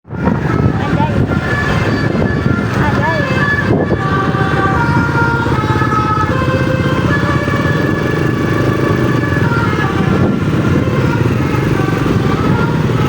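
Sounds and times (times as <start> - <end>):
engine rumbling: 0.1 - 13.0.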